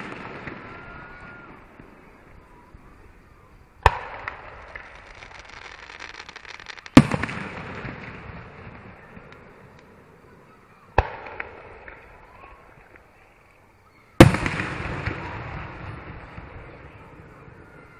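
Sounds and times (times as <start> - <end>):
fireworks bangs: 0.0 - 13.2, 14.2 - 17.9
fireworks crackling: 0.0 - 13.5, 14.2 - 17.9.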